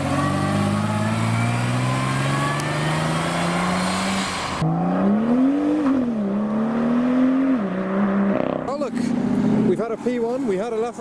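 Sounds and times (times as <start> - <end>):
second car engine accelerating: 0.0 - 10.4
car engine accelerating: 0.0 - 11.0.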